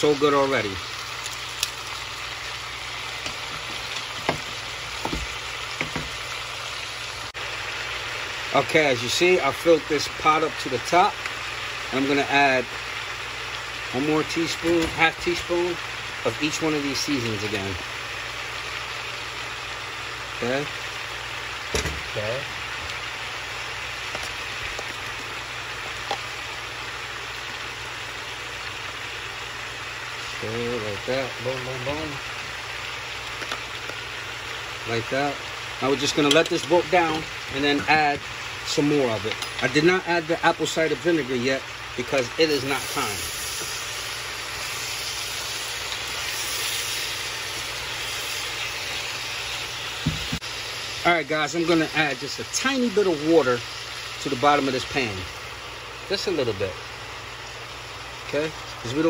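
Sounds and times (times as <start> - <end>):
vegetables sizzling in a pot: 0.0 - 59.0.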